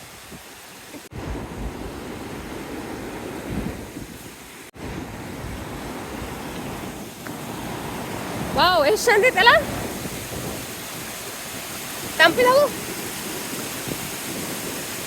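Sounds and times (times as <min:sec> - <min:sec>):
stream water rushing: 0:00.0 - 0:15.0
wind buffeting microphone: 0:00.0 - 0:15.0.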